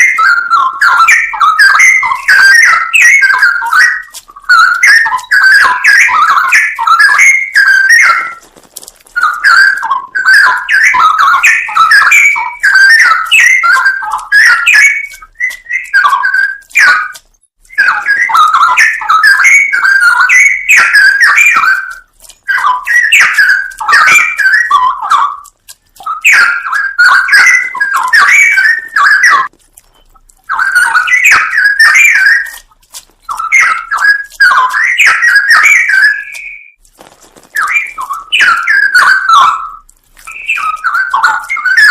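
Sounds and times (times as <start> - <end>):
bird singing warbling phrases: 0.0 - 41.9.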